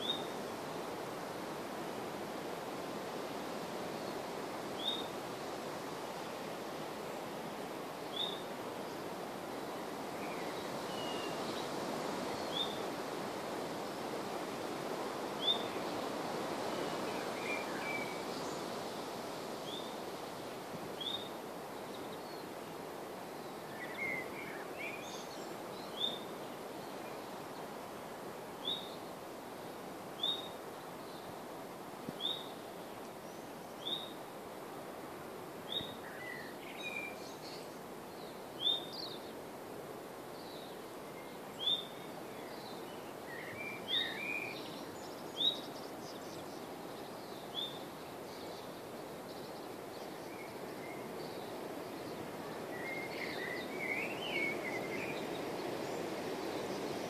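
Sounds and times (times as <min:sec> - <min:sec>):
wind in trees: 0:00.0 - 0:57.0.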